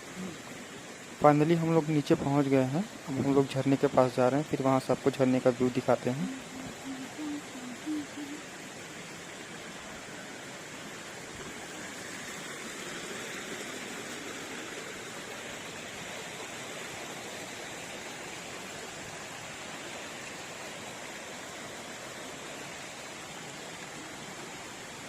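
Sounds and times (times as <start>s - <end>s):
waterfall rushing water: 0.0s - 25.0s.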